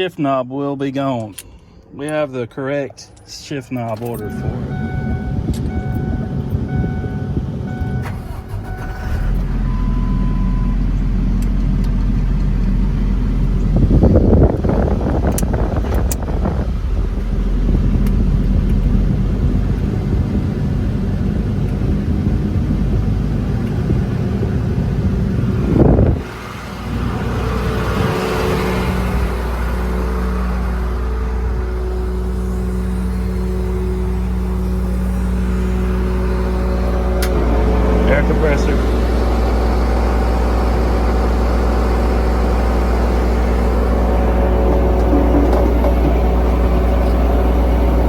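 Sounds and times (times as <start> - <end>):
truck diesel engine running: 2.0 - 48.0.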